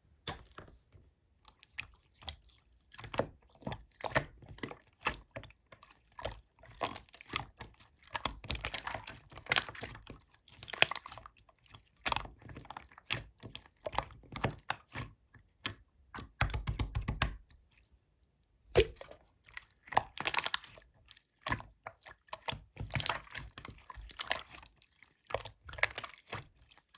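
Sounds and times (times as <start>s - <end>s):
slime squelching by hand: 0.1s - 26.9s.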